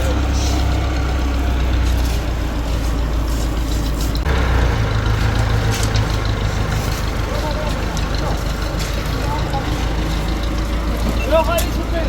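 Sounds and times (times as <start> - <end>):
machinery engine running: 0.0 - 12.0.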